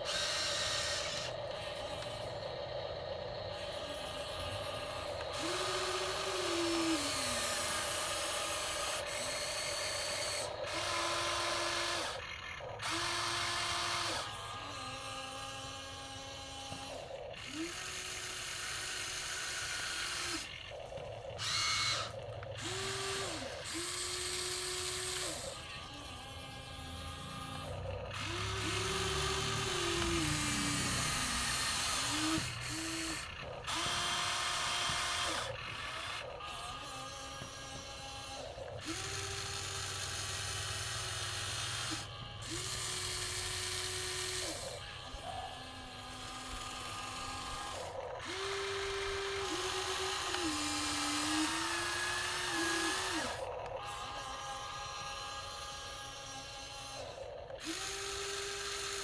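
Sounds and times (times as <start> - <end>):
toy excavator electric motors whining: 0.0 - 59.0.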